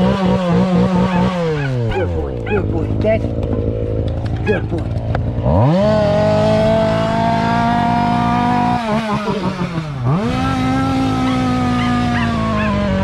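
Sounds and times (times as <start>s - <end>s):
small petrol engine revving: 0.0s - 13.0s.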